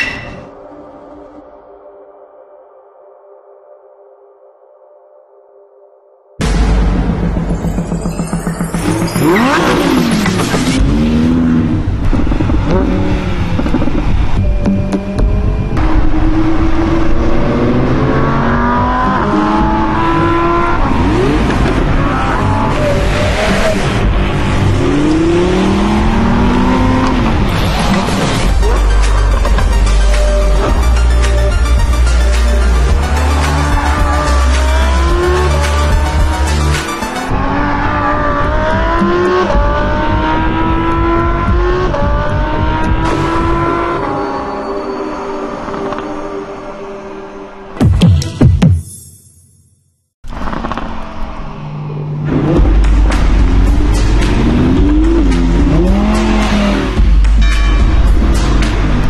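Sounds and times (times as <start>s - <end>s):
car engine accelerating: 6.4s - 47.1s, 50.3s - 59.0s.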